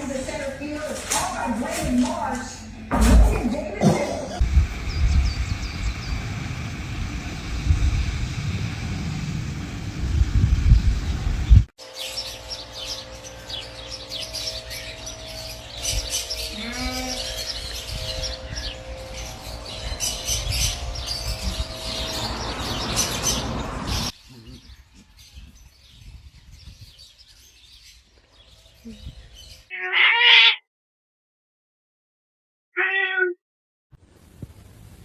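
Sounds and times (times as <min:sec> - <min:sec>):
birds chirping: 0:00.0 - 0:09.3, 0:10.1 - 0:29.7.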